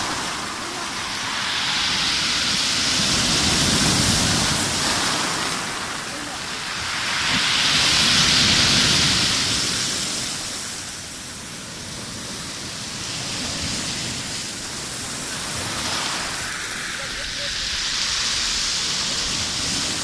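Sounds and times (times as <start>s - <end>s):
waves breaking on shore: 0.0s - 20.0s.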